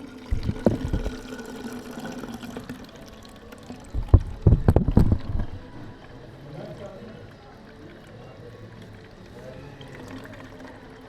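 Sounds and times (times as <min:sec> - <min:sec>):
coolant pouring into container: 0:00.0 - 0:11.0.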